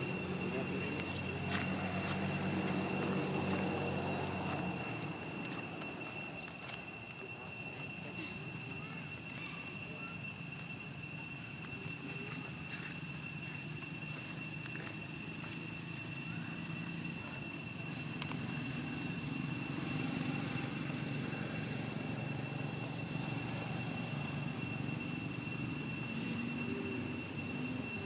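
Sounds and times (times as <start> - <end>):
distant engine drone: 0.0 - 28.0
thin high-pitched whine: 0.0 - 28.0.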